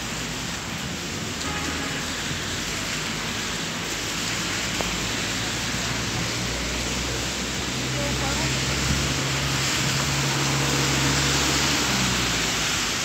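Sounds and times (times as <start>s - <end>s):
rain falling on wet street: 0.0s - 13.0s.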